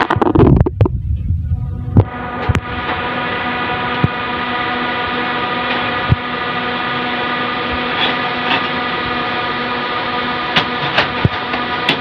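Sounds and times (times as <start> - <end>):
droning hum: 0.0 - 12.0.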